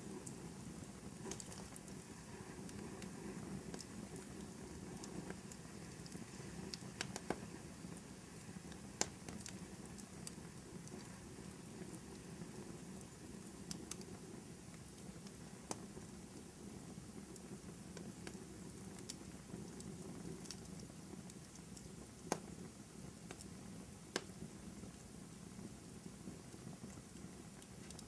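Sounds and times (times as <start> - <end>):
fire flame rushing: 0.0 - 28.0
wood fire crackles and pops: 0.0 - 28.0.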